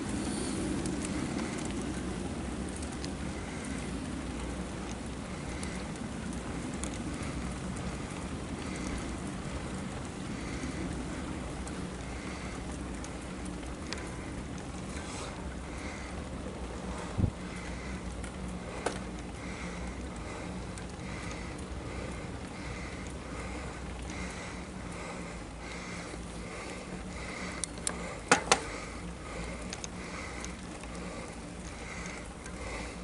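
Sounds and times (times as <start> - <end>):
bicycle tyres on asphalt: 0.0 - 33.0.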